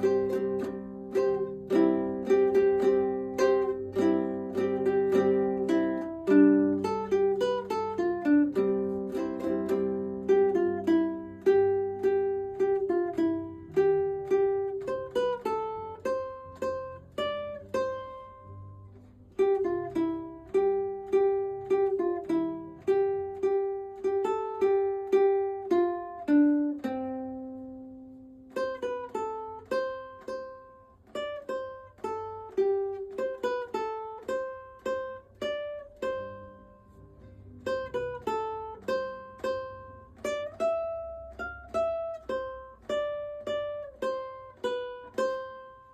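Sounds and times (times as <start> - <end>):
plucked string instrumental music: 0.0 - 45.9.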